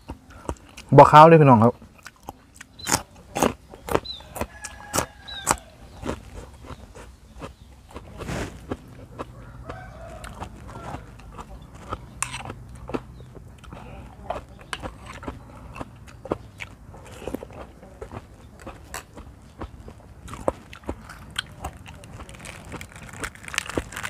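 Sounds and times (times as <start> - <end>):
chewing and crunching: 0.0 - 24.0
chickens clucking: 1.7 - 22.7.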